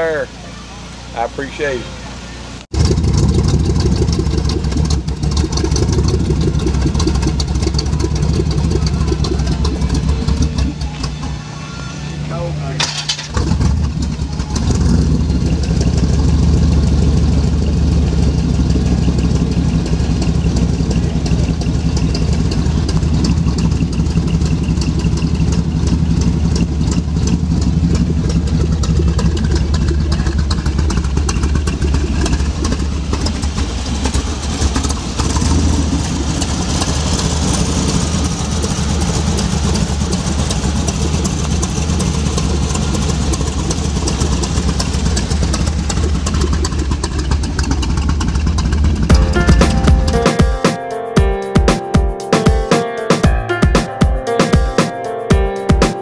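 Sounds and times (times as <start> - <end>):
vee eight engine idling: 0.0 - 50.6.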